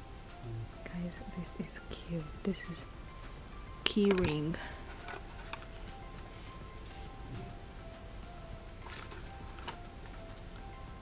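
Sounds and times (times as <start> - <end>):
faint background music: 0.0 - 11.0
low room hiss: 0.0 - 11.0.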